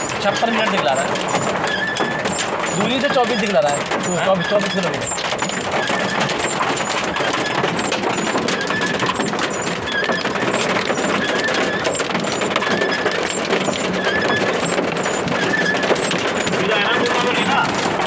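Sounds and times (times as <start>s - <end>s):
road and rain noise in vehicle: 0.0s - 18.0s.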